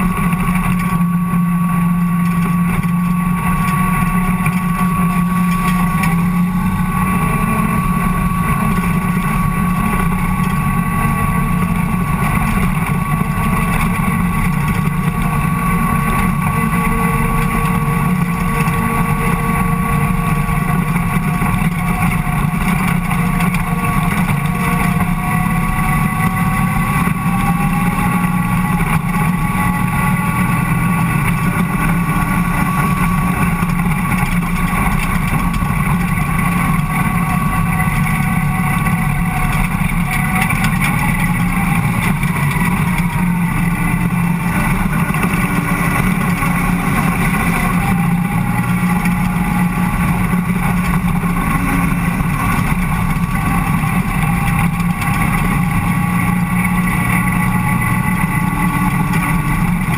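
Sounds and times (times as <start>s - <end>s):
race car engine droning: 0.0s - 59.9s.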